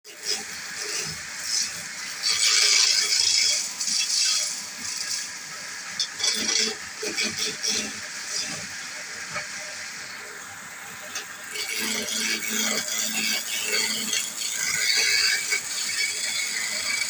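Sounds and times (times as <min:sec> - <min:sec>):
chisel scraping wood on lathe: 0:00.1 - 0:05.3, 0:06.0 - 0:10.1, 0:11.0 - 0:17.0.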